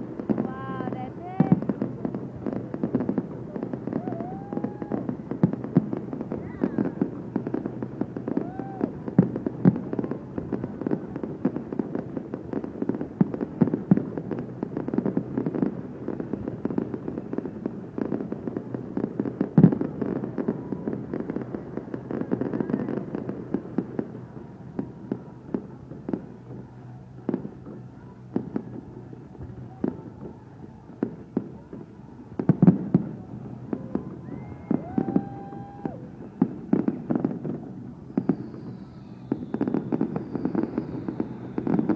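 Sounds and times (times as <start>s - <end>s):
fireworks bangs and crackles: 0.0s - 41.9s
fireworks booms: 0.0s - 41.9s.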